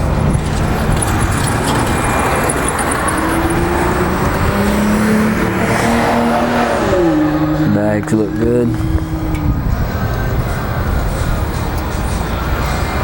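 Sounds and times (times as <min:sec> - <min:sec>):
passing vehicle engine: 0:00.0 - 0:13.0
road traffic noise: 0:00.0 - 0:13.0.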